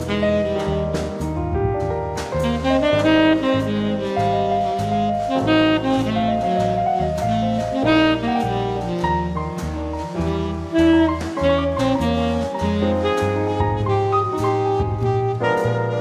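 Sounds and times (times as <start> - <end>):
instrumental jazz music: 0.0 - 16.0.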